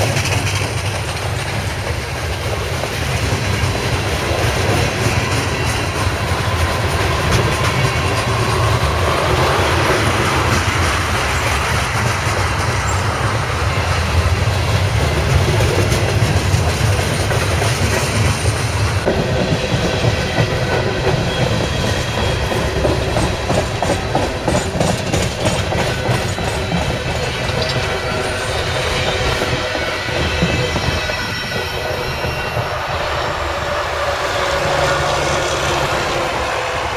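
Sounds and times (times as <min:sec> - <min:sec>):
wheels clicking over rail joints: 0:00.0 - 0:34.0
freight train rumbling past: 0:00.0 - 0:36.9.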